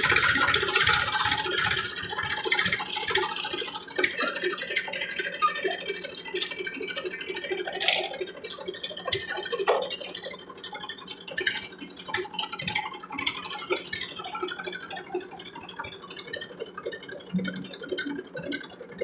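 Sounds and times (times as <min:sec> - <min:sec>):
tractor engine droning: 0:00.0 - 0:15.4.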